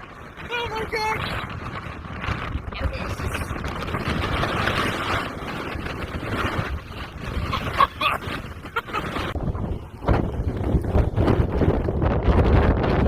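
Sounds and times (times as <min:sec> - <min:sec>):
wind gusting against car: 0:00.0 - 0:13.0.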